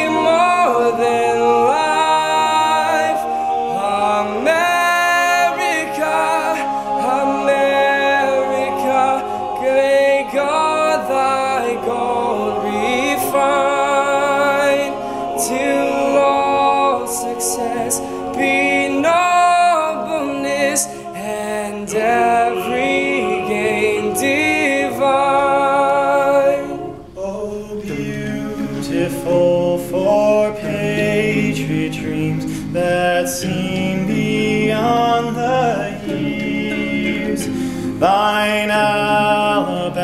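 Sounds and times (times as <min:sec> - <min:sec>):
male a cappella group singing: 0:00.0 - 0:40.0.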